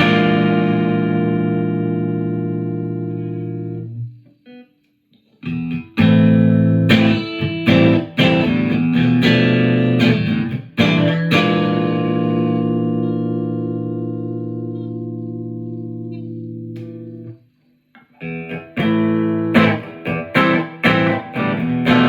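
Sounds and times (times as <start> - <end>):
electric guitar strummed: 0.0 - 4.6, 5.4 - 17.4, 18.2 - 22.0.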